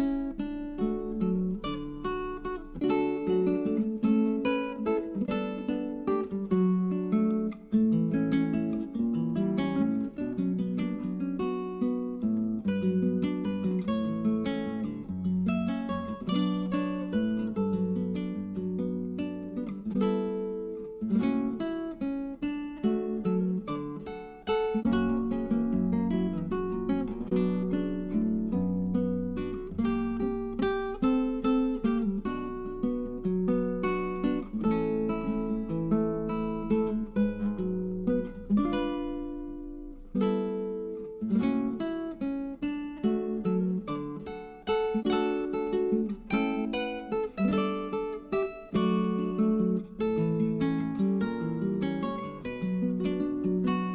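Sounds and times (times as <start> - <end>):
acoustic guitar strumming: 0.0 - 53.9.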